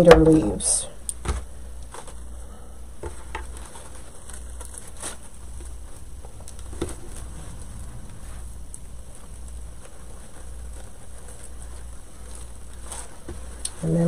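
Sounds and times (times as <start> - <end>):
plastic leaves rustling: 0.0 - 14.0
steady low hum: 0.0 - 14.0.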